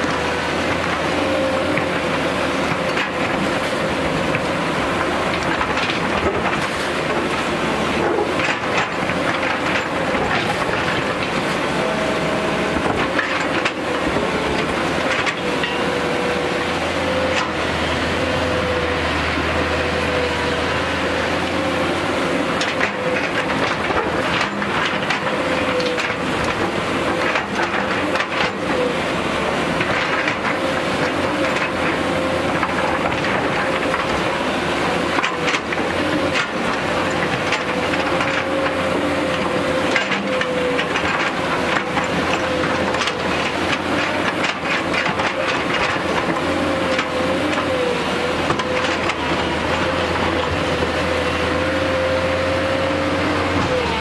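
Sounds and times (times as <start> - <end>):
excavator diesel engine whining: 0.0 - 54.0.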